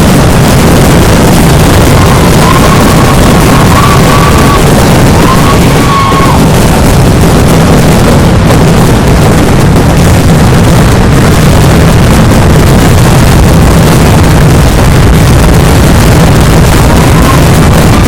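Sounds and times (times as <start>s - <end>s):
firecrackers going off: 0.0s - 18.0s.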